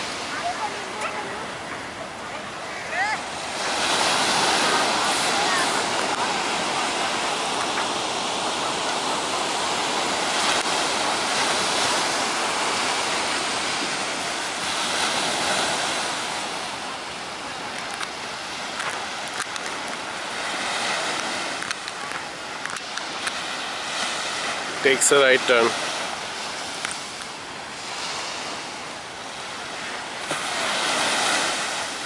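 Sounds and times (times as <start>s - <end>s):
surf breaking on beach: 0.0s - 32.0s.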